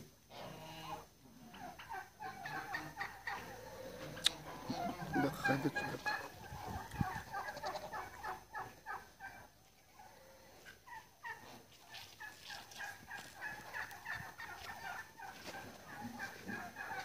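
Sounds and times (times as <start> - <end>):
poultry calling: 0.3 - 17.0.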